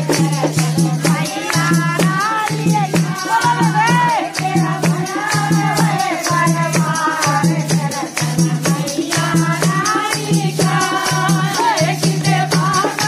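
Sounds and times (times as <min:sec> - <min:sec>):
rattling percussion beat: 0:00.0 - 0:13.0.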